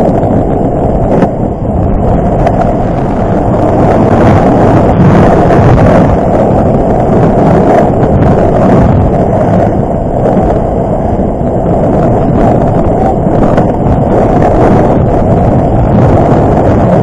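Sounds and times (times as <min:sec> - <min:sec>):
sled sliding over snow: 0:00.0 - 0:17.0
wind rush on microphone: 0:00.0 - 0:17.0.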